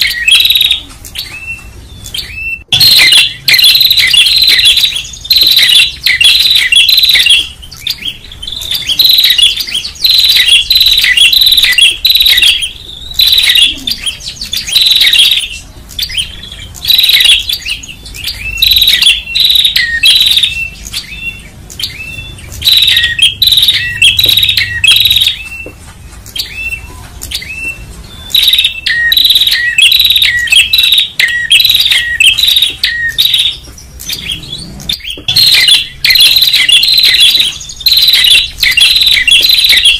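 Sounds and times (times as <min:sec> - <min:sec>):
songbird chirping rapidly: 0:00.0 - 0:39.9.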